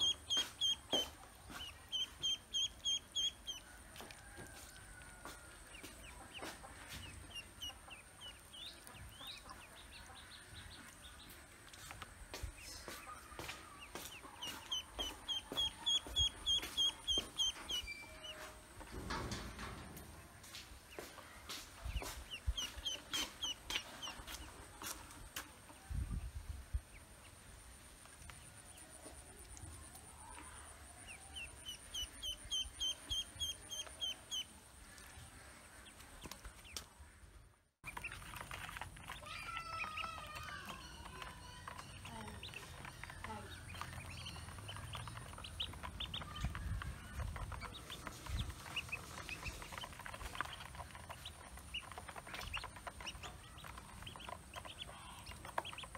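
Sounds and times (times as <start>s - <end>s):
ducklings peeping: 0.0s - 19.8s, 20.5s - 27.4s, 28.0s - 55.9s.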